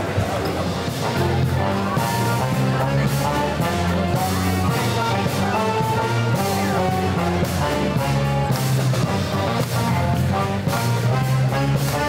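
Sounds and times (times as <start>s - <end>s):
street band playing brass: 0.0s - 12.0s
trombone: 0.0s - 12.0s.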